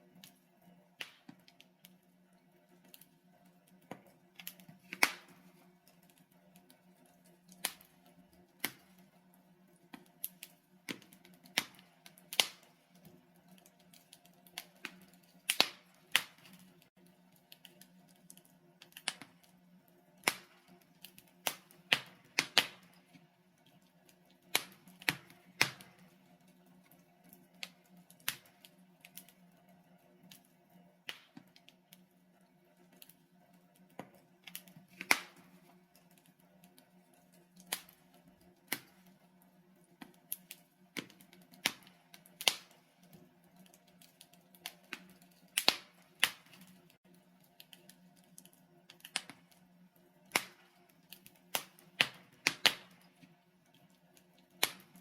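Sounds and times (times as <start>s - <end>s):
logs crackling in fireplace: 0.0s - 55.0s.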